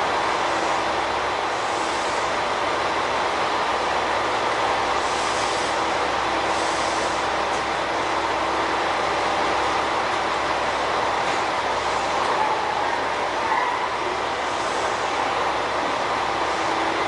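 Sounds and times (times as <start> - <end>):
diesel railcars idling: 0.0 - 17.0.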